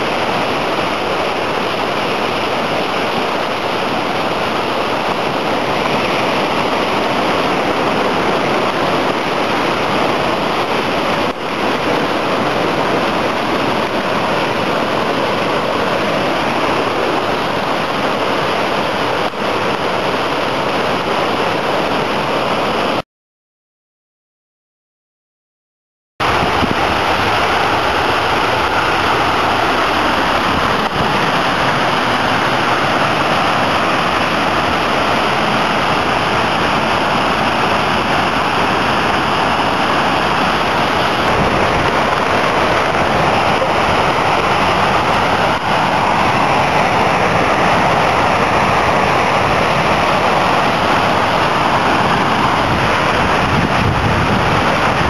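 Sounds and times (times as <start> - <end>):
water rushing over dam: 0.0 - 23.0, 26.2 - 55.0.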